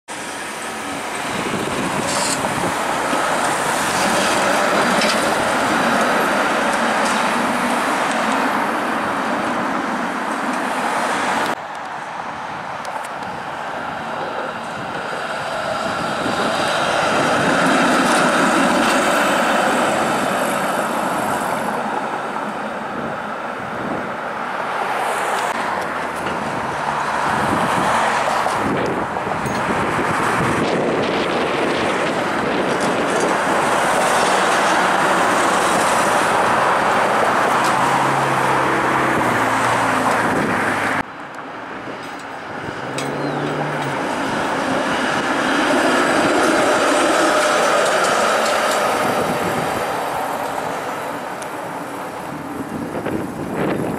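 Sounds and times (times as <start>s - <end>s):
passing car traffic: 0.1s - 53.9s
streetcars running on track: 0.1s - 53.9s.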